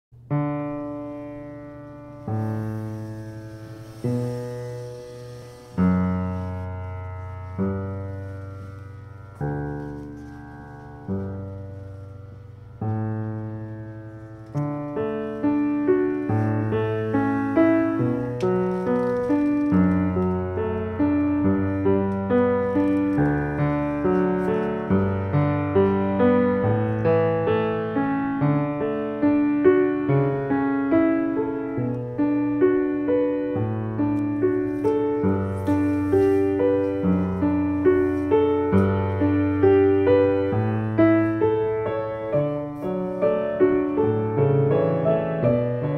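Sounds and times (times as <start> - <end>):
piano music: 0.2 - 45.9.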